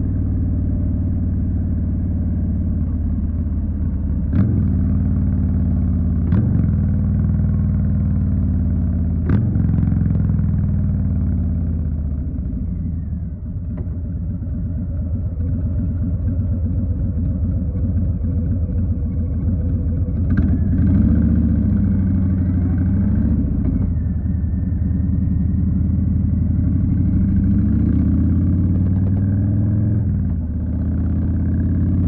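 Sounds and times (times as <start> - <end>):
motorcycle engine rumbling: 0.0 - 32.0.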